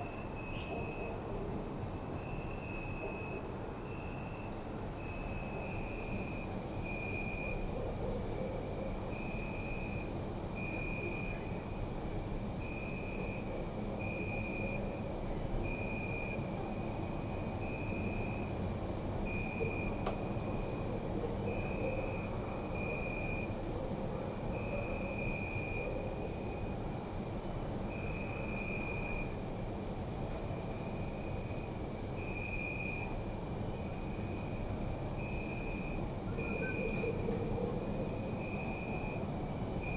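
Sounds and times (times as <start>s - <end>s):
crickets trilling: 0.0s - 39.9s
low cricket chirp: 0.0s - 39.9s.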